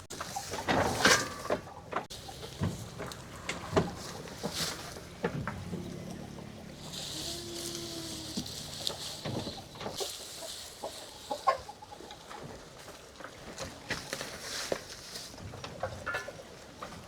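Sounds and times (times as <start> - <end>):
chickens clucking: 0.0 - 15.0
small knocks and rustles: 0.1 - 17.0.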